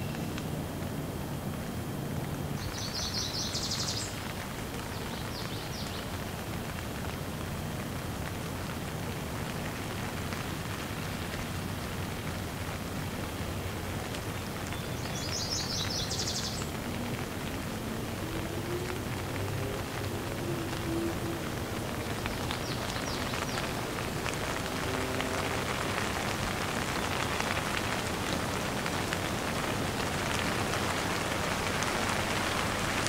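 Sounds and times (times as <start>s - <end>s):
heavy rain on leaves: 0.0s - 33.0s.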